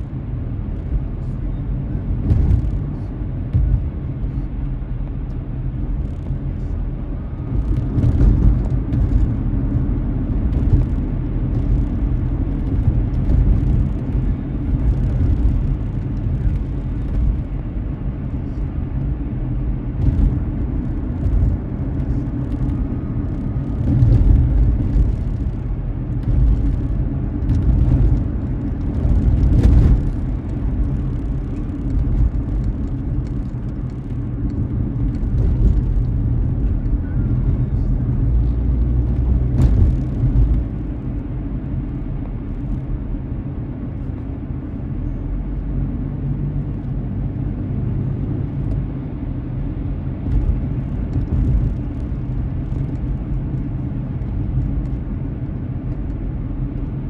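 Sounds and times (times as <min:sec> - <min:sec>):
car driving on wet road: 0:00.0 - 0:57.0.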